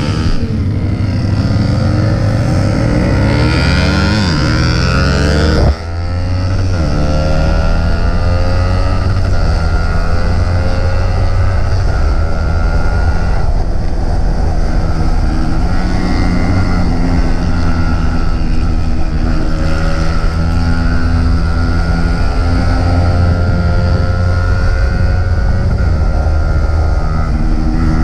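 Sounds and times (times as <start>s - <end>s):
motorcycle engine accelerating: 0.0s - 28.0s
wind rush: 0.0s - 28.0s.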